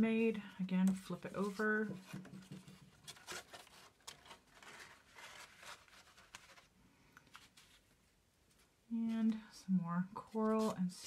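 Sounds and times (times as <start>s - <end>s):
paper rustling and scraping: 1.0s - 9.2s, 10.3s - 11.0s.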